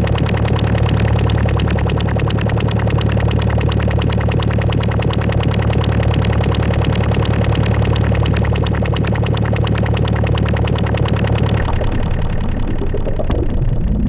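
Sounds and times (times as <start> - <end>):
low buzzy synthesizer drone: 0.0 - 14.0.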